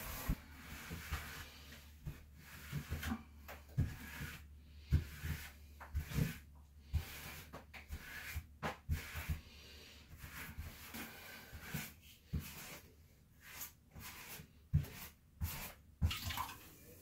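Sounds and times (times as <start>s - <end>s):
grout float scraping tiles: 0.0s - 17.0s.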